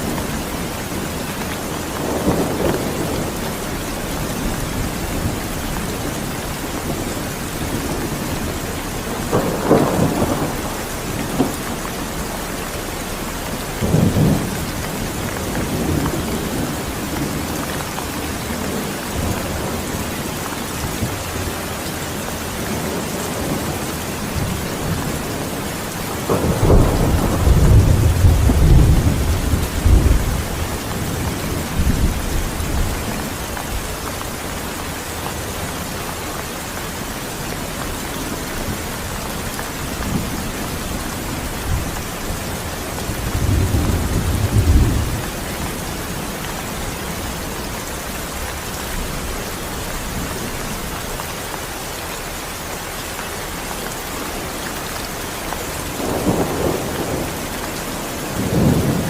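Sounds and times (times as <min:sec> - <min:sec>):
rolling thunder: 0:00.0 - 0:21.6, 0:22.5 - 0:34.3, 0:37.4 - 0:50.9, 0:55.8 - 0:59.0
heavy rain: 0:00.0 - 0:59.0.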